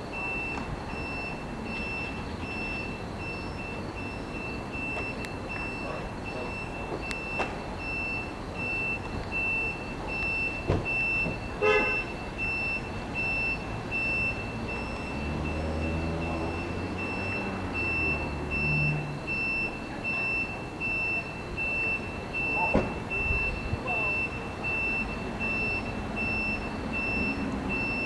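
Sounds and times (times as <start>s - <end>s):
electronic warning beeper: 0.0s - 28.0s
low engine rumble: 0.0s - 28.0s.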